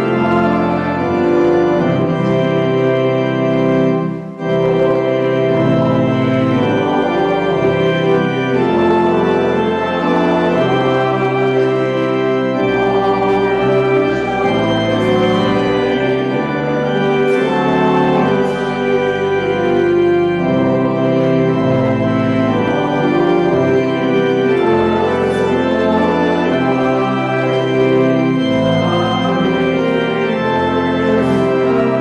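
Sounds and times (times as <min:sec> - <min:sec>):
church organ chords: 0:00.0 - 0:32.0.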